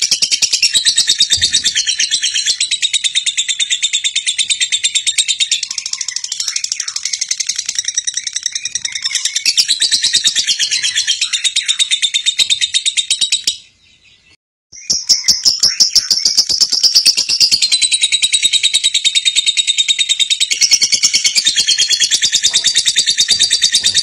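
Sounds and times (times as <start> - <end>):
rapid bird chirping: 0.0 - 24.0.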